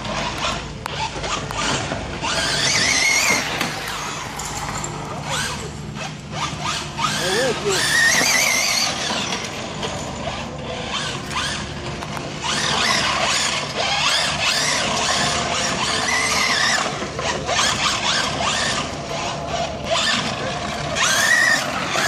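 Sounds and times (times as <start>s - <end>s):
rc car engine revving: 0.0s - 22.0s.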